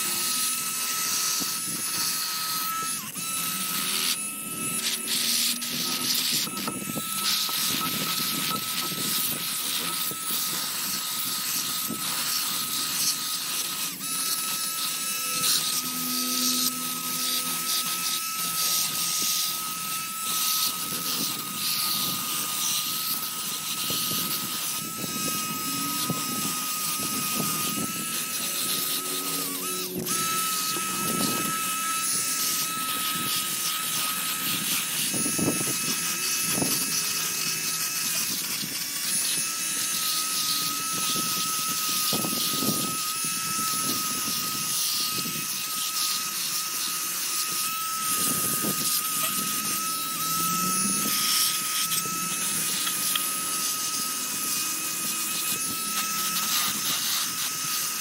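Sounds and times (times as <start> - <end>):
handheld power tool whining: 0.0 - 58.0.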